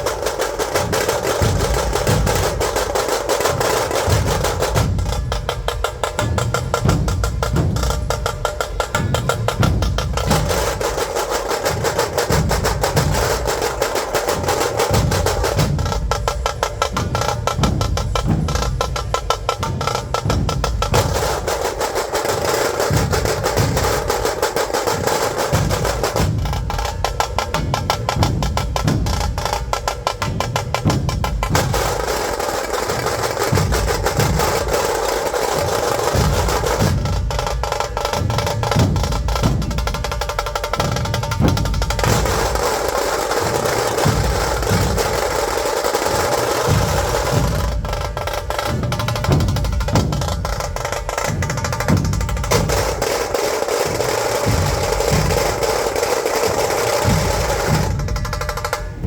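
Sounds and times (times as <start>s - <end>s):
drums played fast: 0.0s - 59.0s.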